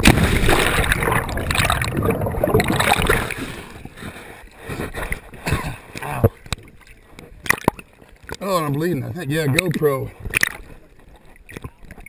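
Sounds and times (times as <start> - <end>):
water rushing and bubbling: 0.0 - 12.0
water sloshing: 0.0 - 12.0.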